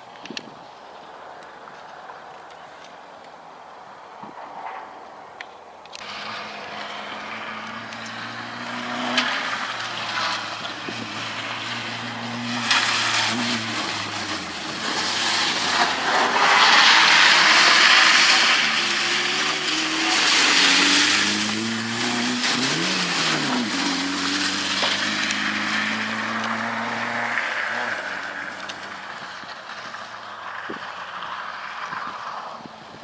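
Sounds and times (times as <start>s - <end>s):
rally car engine revving: 6.0s - 32.4s
tyres rushing on wet gravel: 6.0s - 33.0s.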